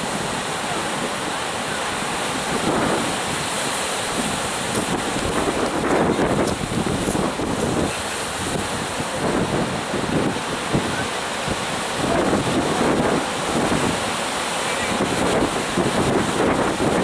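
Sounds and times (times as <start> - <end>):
sea surf breaking: 0.0 - 17.0
wind buffeting microphone: 2.3 - 14.2, 14.8 - 17.0.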